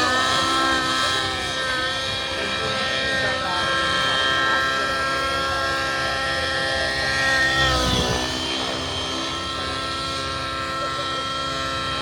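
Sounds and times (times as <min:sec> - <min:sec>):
rc helicopter rotor whining: 0:00.0 - 0:12.0.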